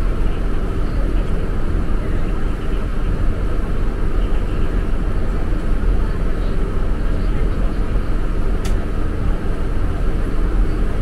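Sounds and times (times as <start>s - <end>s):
boat engine rumble: 0.0s - 11.0s
wind: 0.0s - 11.0s.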